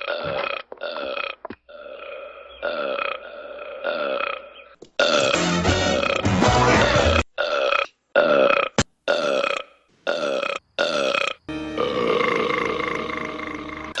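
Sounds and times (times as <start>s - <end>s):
cartoon character burping: 0.0s - 6.3s, 7.2s - 13.2s.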